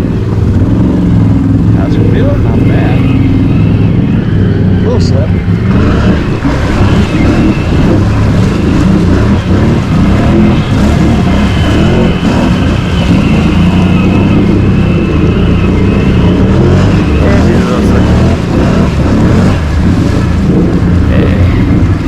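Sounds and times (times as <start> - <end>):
atv engine revving through mud: 0.0 - 22.0.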